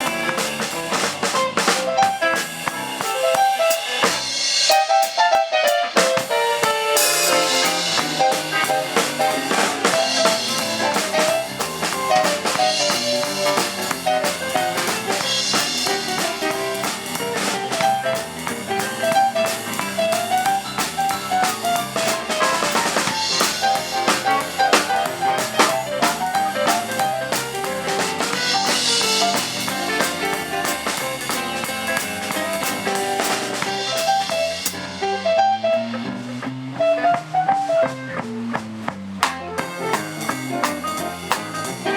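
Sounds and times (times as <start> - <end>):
drum kit beat: 0.0 - 41.9
live band playing: 0.0 - 41.9.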